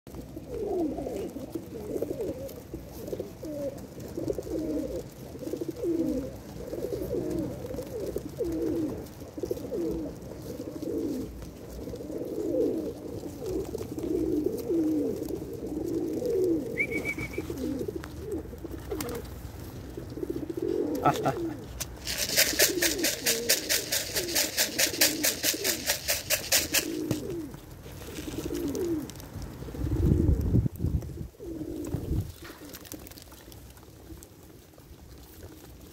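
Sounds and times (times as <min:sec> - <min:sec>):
pigeons cooing: 0:00.1 - 0:35.9.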